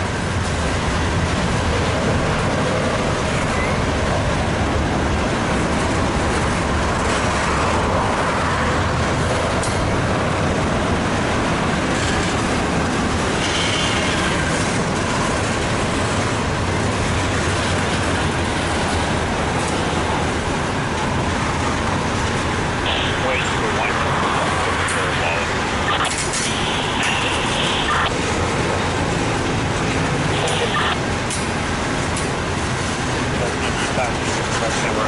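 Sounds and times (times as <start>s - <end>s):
train wheels running over rails: 0.0s - 35.0s.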